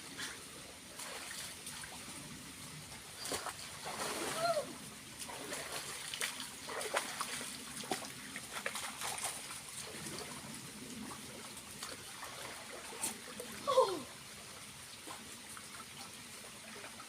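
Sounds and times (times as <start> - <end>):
small waterfall splashing: 2.9 - 17.0.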